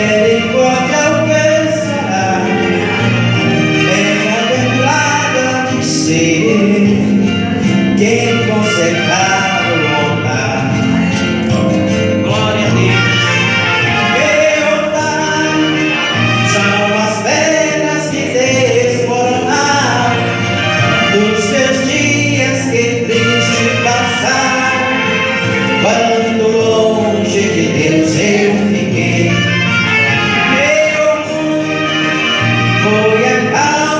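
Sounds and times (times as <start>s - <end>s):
gospel song melody: 0.0s - 33.9s
repeating bass: 0.0s - 33.9s.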